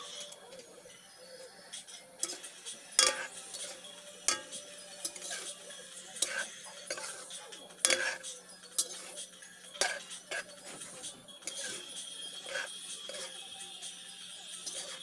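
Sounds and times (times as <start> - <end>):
spatula scraping metal wok: 0.0 - 0.6, 1.6 - 15.0.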